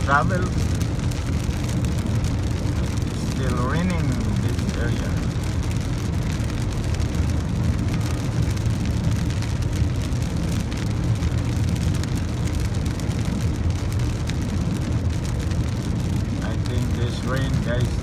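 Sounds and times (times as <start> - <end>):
engine and tyres on wet road: 0.0 - 18.0
rain hitting car: 0.0 - 18.0.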